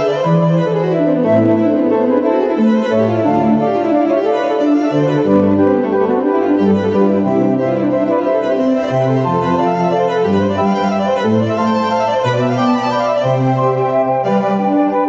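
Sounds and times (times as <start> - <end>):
instrumental background music: 0.0 - 15.0
keyboard arpeggios: 0.0 - 15.0.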